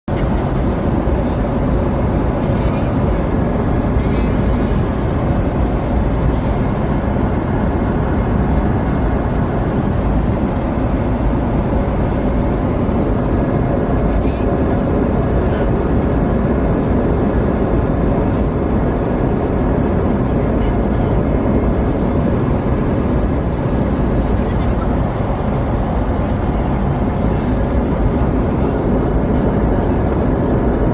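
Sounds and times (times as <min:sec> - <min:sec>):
airliner cabin engine noise: 0:00.1 - 0:30.9.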